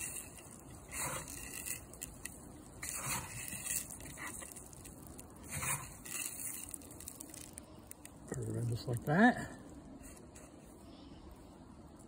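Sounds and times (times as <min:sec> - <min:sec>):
bird seed rustling and pouring: 0:00.0 - 0:11.0.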